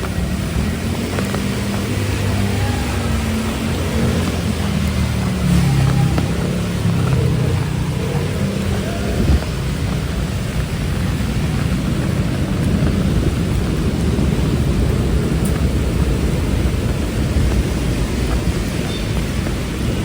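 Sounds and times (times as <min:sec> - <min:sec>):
deep rumble: 0:00.0 - 0:20.0
heavy rain pouring: 0:00.0 - 0:20.0.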